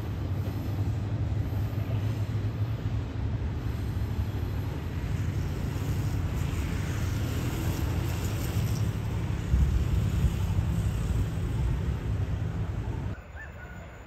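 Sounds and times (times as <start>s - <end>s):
vehicle engine rumble: 0.0s - 13.2s.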